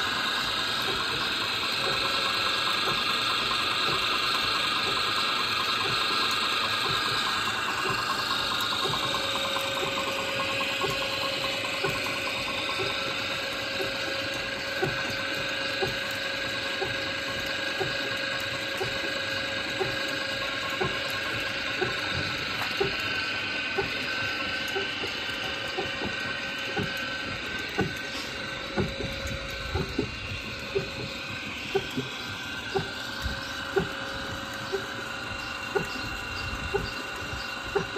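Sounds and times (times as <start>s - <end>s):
belt-driven machinery clattering: 0.0s - 37.9s
barrel churn knocking: 5.8s - 16.1s, 16.8s - 37.9s.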